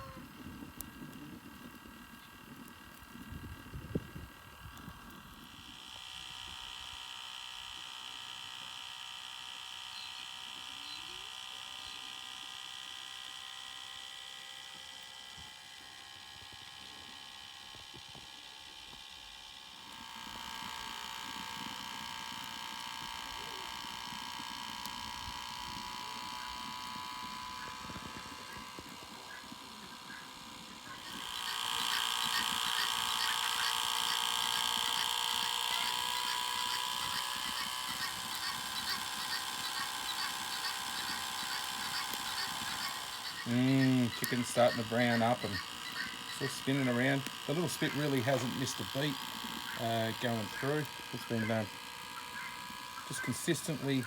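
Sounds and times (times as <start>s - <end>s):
small motor whining: 0.0s - 54.0s.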